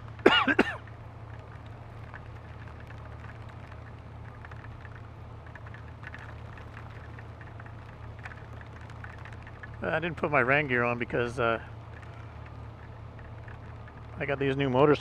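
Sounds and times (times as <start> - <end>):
motorcycle engine running: 0.0 - 15.0
raindrops ticking on camera: 0.0 - 15.0
wet road noise: 0.0 - 15.0.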